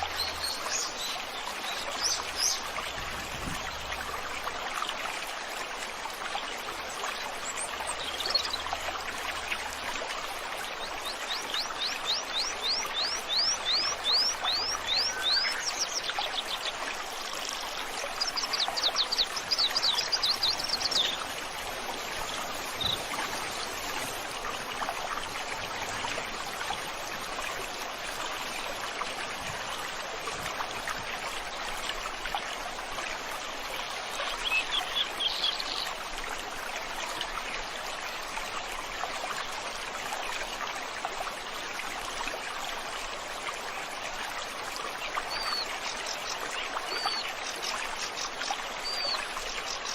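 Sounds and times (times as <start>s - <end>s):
stream water running: 0.0s - 49.9s.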